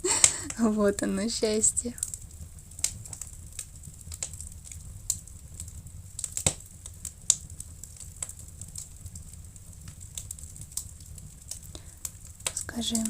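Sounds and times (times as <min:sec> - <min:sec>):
steady low rumble: 0:00.0 - 0:13.0
wood fire crackling: 0:00.0 - 0:13.0.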